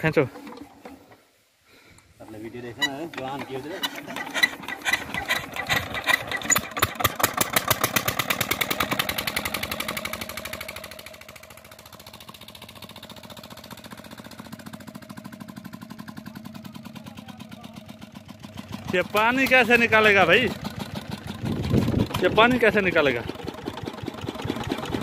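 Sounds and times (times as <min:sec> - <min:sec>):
diesel engine running: 0:03.9 - 0:25.0.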